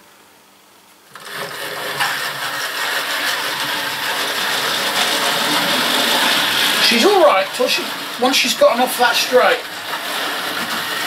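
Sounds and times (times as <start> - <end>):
model locomotive whirring: 1.1 - 11.0.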